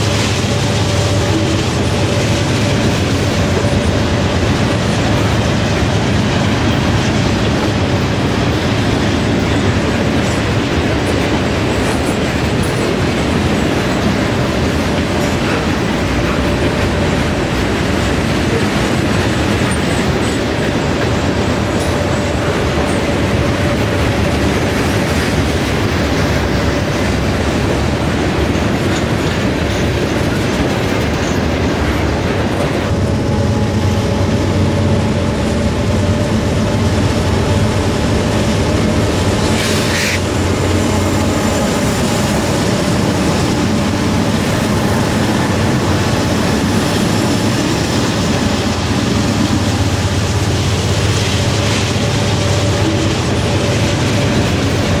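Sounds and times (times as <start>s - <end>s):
diesel locomotive drone: 0.0s - 55.0s
train wheels clattering on rails: 0.0s - 55.0s.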